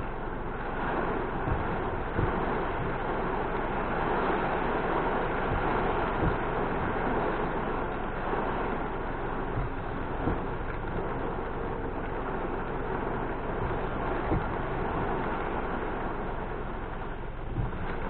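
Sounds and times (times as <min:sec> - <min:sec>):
rain and tyres on wet road: 0:00.0 - 0:18.0.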